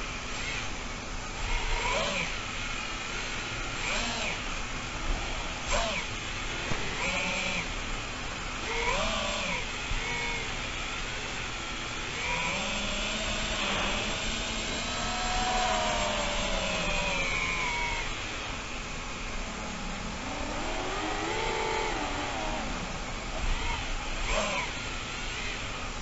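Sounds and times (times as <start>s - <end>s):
drone motors whining: 0.0s - 10.9s, 12.0s - 26.0s.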